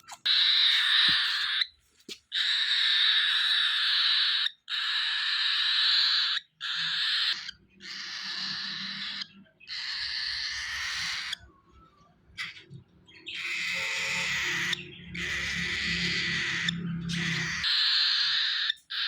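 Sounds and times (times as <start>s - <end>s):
baby bird raspy begging calls: 0.0s - 1.7s, 2.3s - 11.5s, 13.3s - 19.0s.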